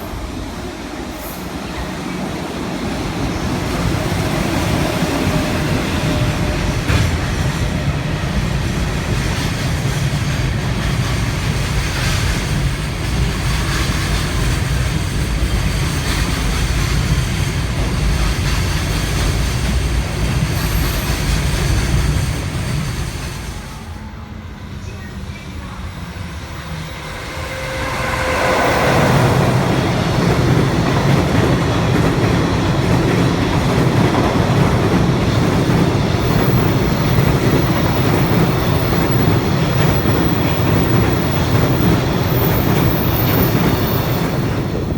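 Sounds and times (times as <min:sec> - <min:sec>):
freight train rumbling and clattering: 0:00.0 - 0:44.9.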